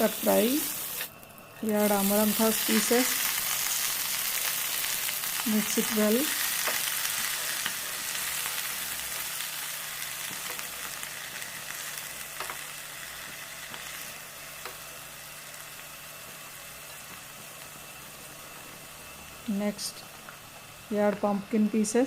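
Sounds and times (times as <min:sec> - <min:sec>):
leaves sizzling in a pan: 0:00.0 - 0:22.0.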